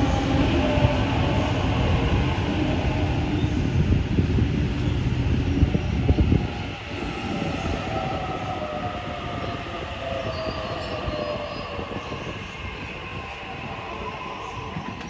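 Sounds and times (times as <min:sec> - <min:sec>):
train wheel rumble: 0:00.0 - 0:15.0.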